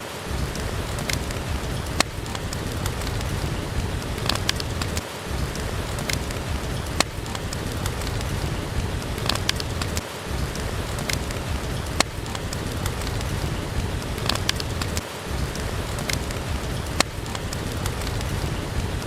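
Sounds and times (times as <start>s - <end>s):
heavy rain: 0.0s - 19.0s
wood fire crackling in a fireplace: 0.0s - 19.0s.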